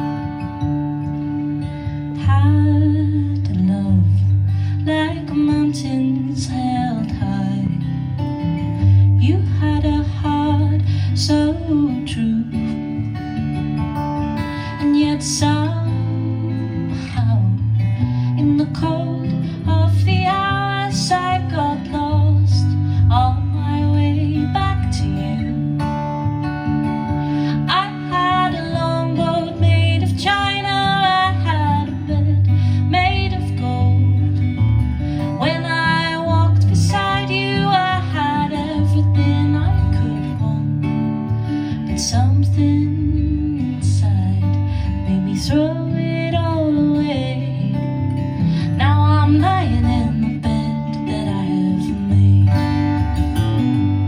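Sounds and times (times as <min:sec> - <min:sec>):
acoustic guitar strumming: 0:00.0 - 0:54.0
woman singing: 0:00.0 - 0:54.0.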